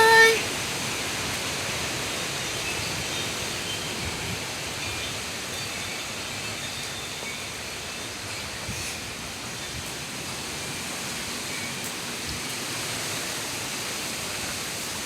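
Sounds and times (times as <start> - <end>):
gusty wind: 0.0 - 15.0
heavy rain falling: 0.0 - 15.0.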